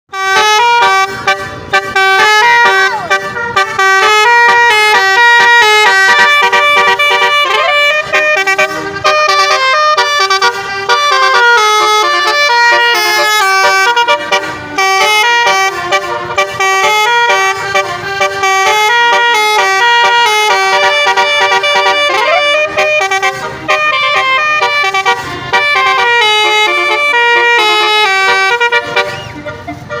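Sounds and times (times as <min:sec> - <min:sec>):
musical vehicle horn melody: 0:00.1 - 0:30.0.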